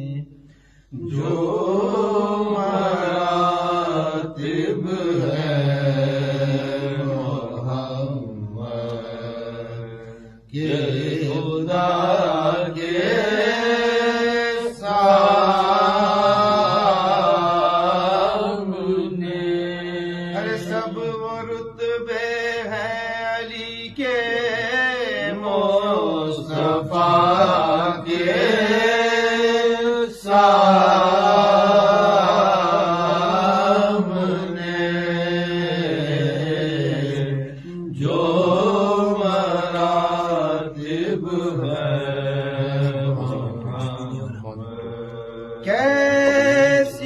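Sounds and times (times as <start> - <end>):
person chanting melodically: 0.0 - 47.0.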